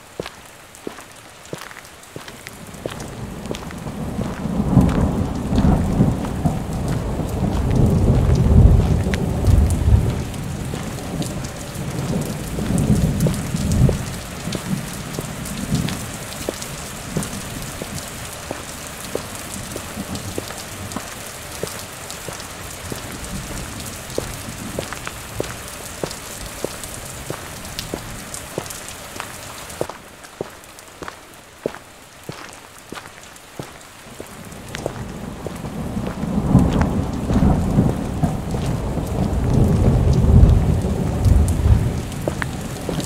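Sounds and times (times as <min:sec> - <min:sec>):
rain falling: 0:00.0 - 0:43.0
thunder rumble: 0:02.6 - 0:28.8, 0:34.4 - 0:43.0.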